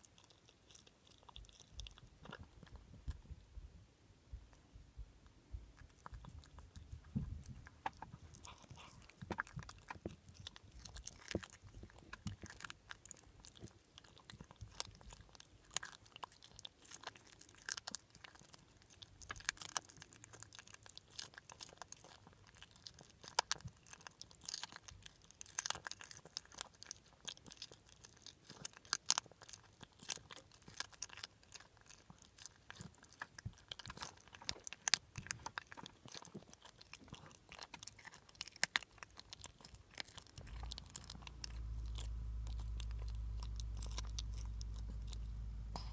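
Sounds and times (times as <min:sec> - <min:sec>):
pet chewing crunchy food: 0:00.0 - 0:03.5, 0:05.2 - 0:45.9.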